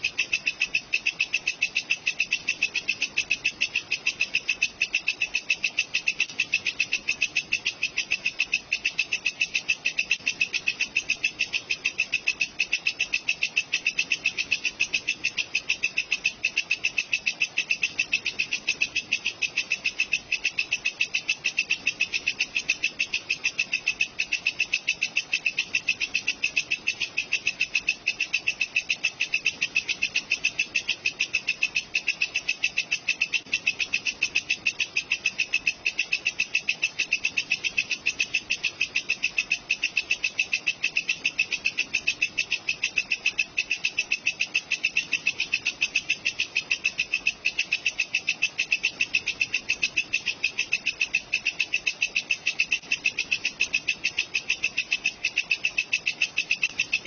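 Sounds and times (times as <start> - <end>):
katydid chirping: 0.0 - 57.0.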